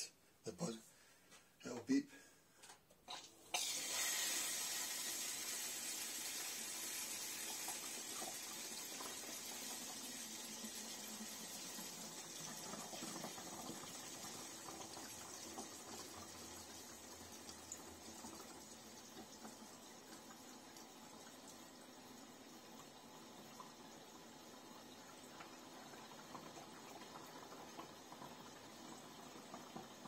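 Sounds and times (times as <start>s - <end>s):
hose water pouring into tank: 3.1s - 30.0s.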